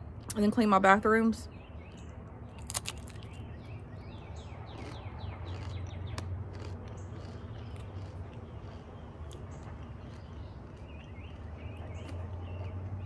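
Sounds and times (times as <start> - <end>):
birds chirping: 0.0 - 13.0
chip crunching: 1.8 - 13.0.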